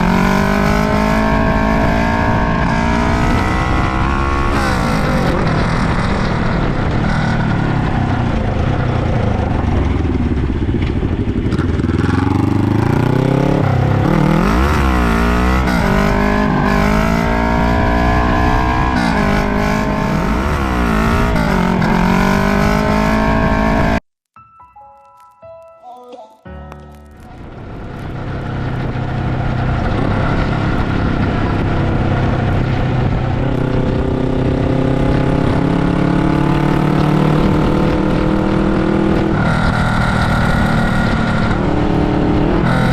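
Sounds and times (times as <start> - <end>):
motorcycle engine revving: 0.0 - 24.0, 27.2 - 42.9.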